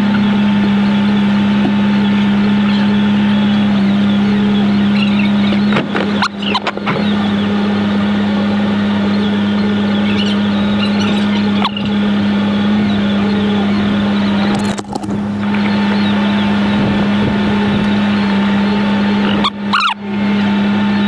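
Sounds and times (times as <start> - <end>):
sped-up engine buzzing drone: 0.0 - 21.0.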